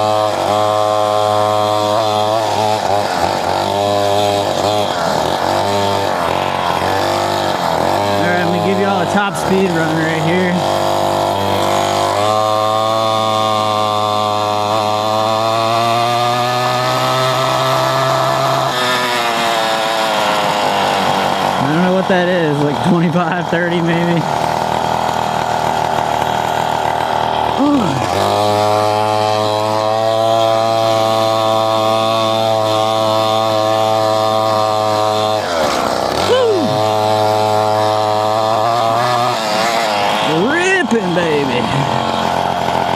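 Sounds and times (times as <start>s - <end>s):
motorbike engine at full throttle: 0.0s - 42.9s.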